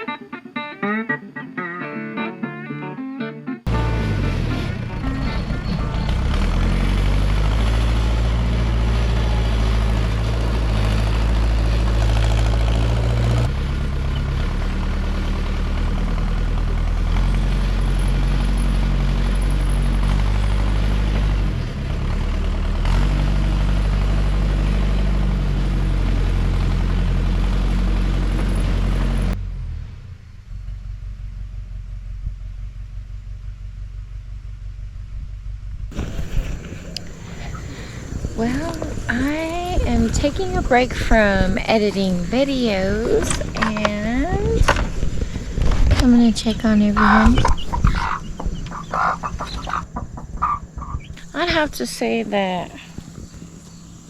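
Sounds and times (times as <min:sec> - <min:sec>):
backhoe engine running: 0:03.7 - 0:29.4, 0:35.9 - 0:54.0.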